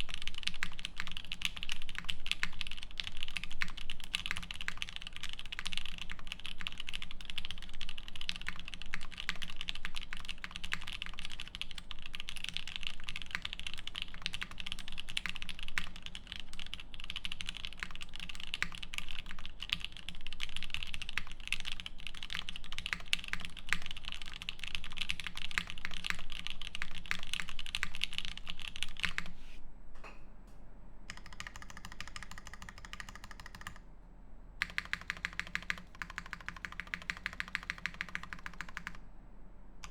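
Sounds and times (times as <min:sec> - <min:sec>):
fast keyboard typing: 0:00.0 - 0:29.4, 0:31.1 - 0:33.8, 0:34.6 - 0:39.0.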